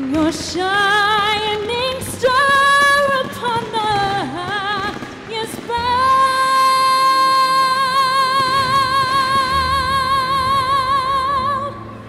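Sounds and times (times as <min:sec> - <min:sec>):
soft backing music: 0:00.0 - 0:12.0
woman singing with vibrato: 0:00.0 - 0:12.0.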